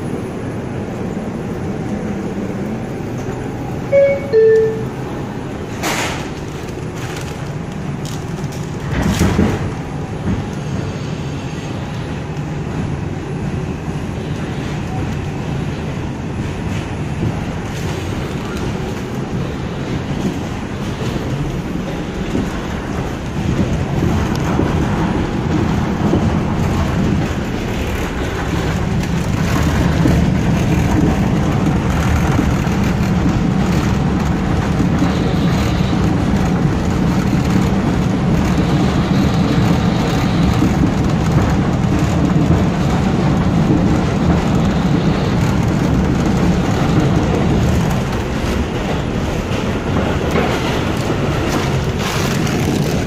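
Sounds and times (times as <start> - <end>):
subway train running on track: 0.0 - 53.0
rail clicks: 0.2 - 53.0.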